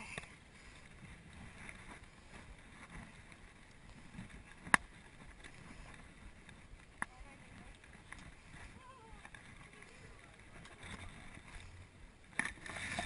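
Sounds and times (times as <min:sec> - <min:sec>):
faint wind: 0:00.0 - 0:13.0.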